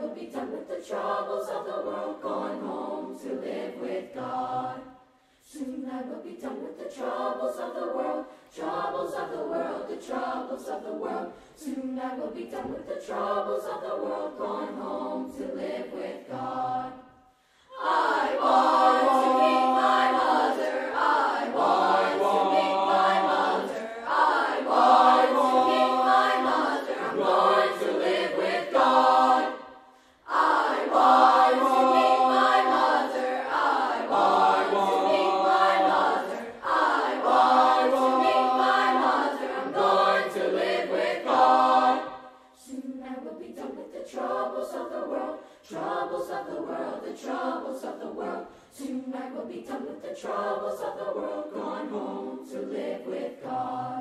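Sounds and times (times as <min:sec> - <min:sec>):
youth choir singing a spiritual: 0:00.0 - 0:54.0.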